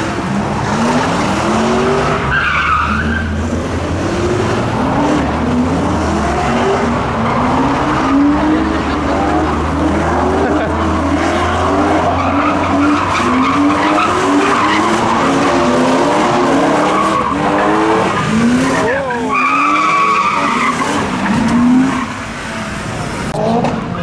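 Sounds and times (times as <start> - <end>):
car engine revving: 0.0 - 23.8
tyres skidding: 0.0 - 24.0.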